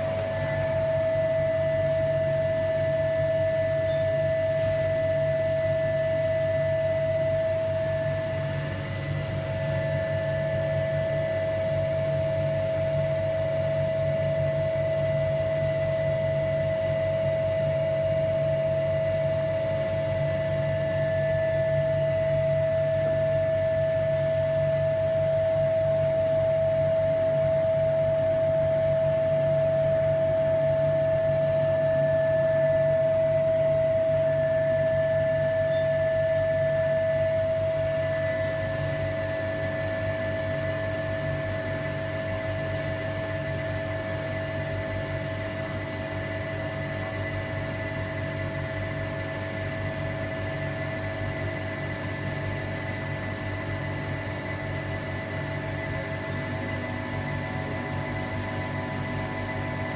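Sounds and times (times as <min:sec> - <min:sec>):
vacuum pump hum and whine: 0:00.0 - 0:59.9.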